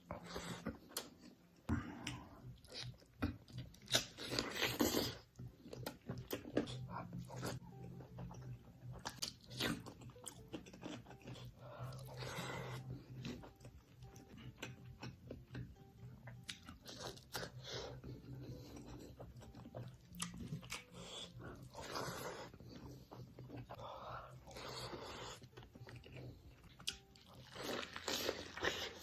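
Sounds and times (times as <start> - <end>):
crunchy chewing of food: 0.1 - 29.0.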